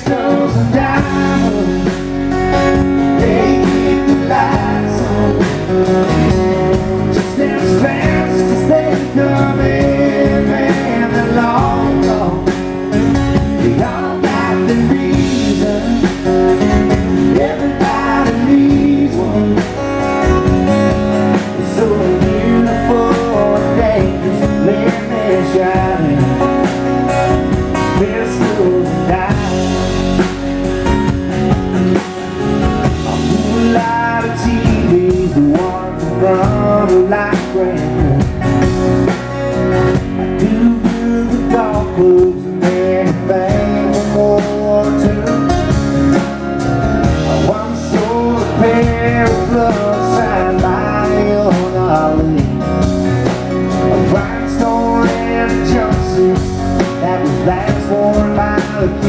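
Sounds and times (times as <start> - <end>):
man singing lead: 0.0 - 30.9, 32.8 - 59.0
electric bass: 0.0 - 59.0
strummed acoustic guitar: 0.0 - 59.0.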